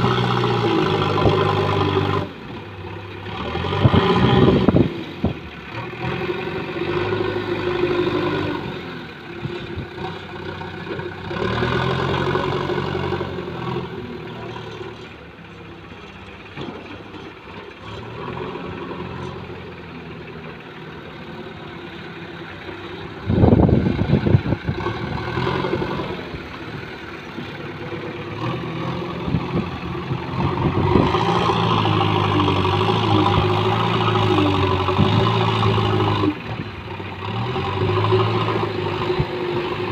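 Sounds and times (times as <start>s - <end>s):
diesel engine revving: 0.0s - 39.9s
loader digging soil: 0.0s - 39.9s.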